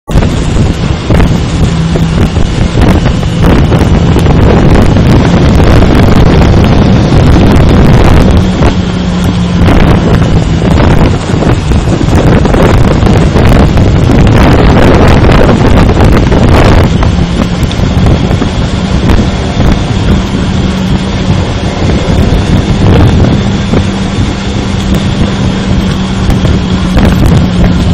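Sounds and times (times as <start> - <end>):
motorcycle engine riding: 0.0 - 27.9
wind buffeting microphone: 0.0 - 27.9.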